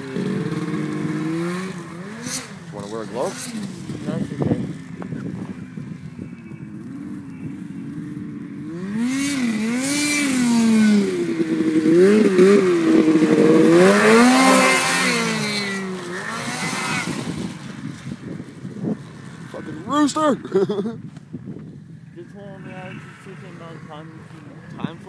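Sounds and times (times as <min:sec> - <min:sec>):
snowmobile engine revving: 0:00.0 - 0:20.9, 0:22.1 - 0:25.0.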